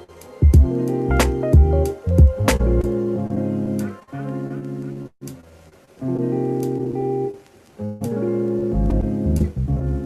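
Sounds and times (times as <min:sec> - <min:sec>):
held music chords: 0:00.0 - 0:10.0.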